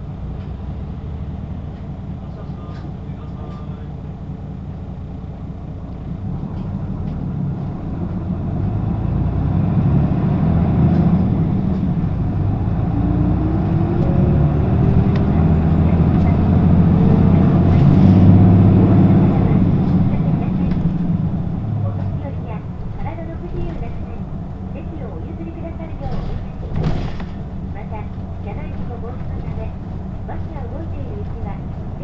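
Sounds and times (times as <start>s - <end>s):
bus diesel engine accelerating: 0.0s - 32.0s.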